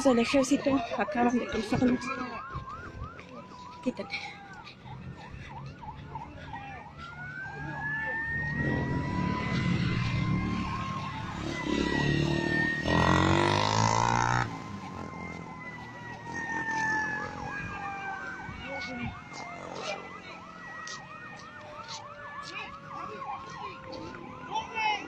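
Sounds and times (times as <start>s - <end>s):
rapid warbling siren: 0.0s - 25.0s
sirens wailing: 0.0s - 25.0s.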